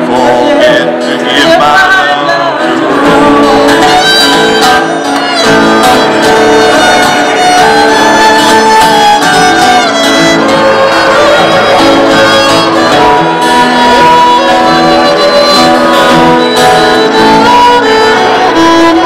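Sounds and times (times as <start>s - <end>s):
fiddle melody: 0.0s - 19.0s
guitar accompaniment: 0.0s - 19.0s.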